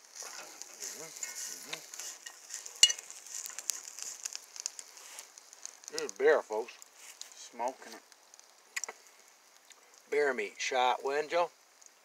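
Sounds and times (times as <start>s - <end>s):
vegetables sizzling in skillet: 0.0s - 12.0s.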